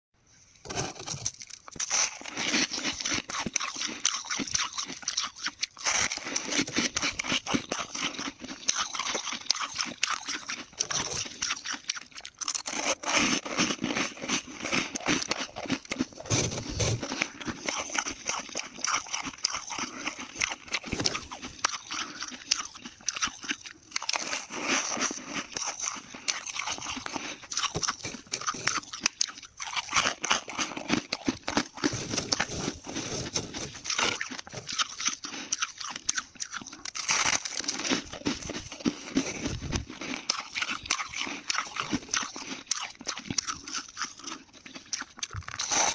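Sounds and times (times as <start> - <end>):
crunchy frost being chewed: 0.7 - 45.9.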